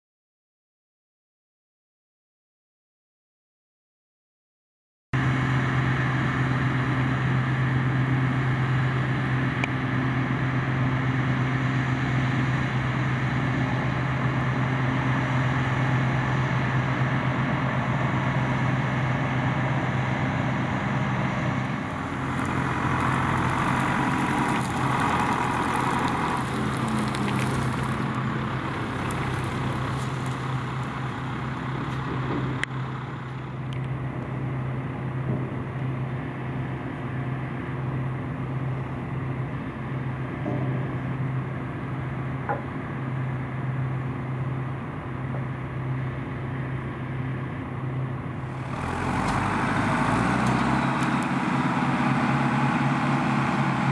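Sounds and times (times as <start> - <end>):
combine harvester engine drone: 5.2 - 53.9.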